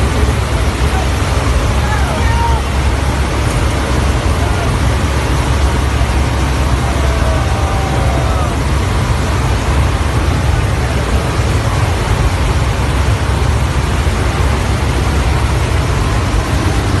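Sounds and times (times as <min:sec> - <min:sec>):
aircraft engine drone: 0:00.0 - 0:17.0
rushing airflow hiss: 0:00.0 - 0:17.0.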